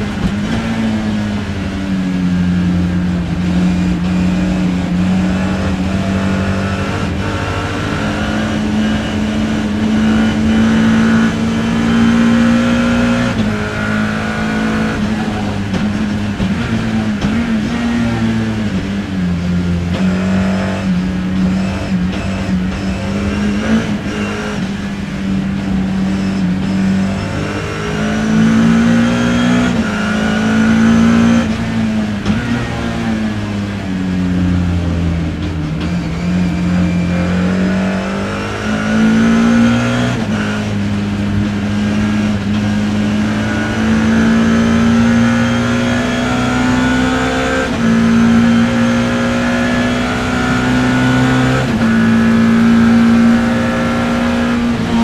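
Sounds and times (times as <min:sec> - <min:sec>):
racing car engine revving: 0:00.0 - 0:55.0.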